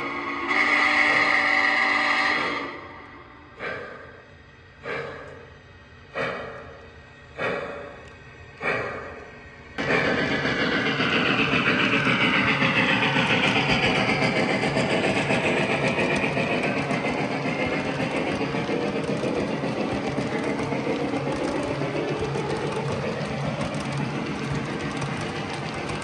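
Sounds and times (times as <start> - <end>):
model train running on track: 0.0 - 26.0.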